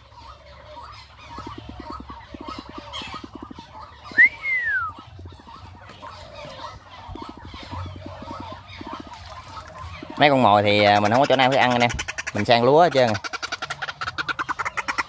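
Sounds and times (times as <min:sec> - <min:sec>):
waterhens clucking: 0:00.0 - 0:15.0.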